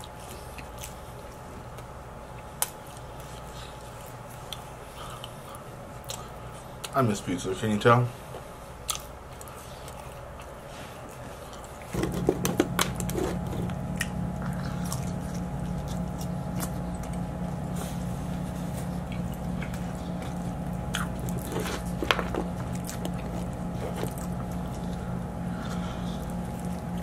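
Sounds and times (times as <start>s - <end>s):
biting and chewing pizza: 0.0s - 7.3s, 8.3s - 27.0s
steady low hum: 0.0s - 27.0s.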